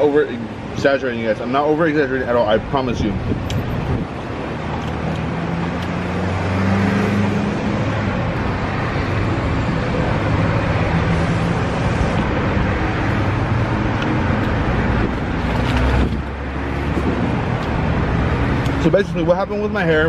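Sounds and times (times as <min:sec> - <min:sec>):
car engines and road traffic hum: 0:00.0 - 0:20.0.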